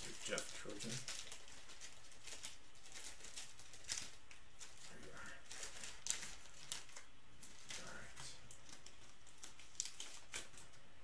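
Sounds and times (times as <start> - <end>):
card wrappers rustling and crinkling: 0.0 - 10.8.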